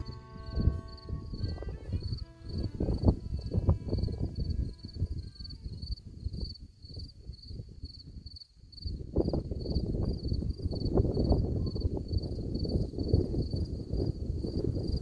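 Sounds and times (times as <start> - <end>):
cricket chirping: 0.0 - 13.7
wind rumbling on microphone: 0.0 - 15.0.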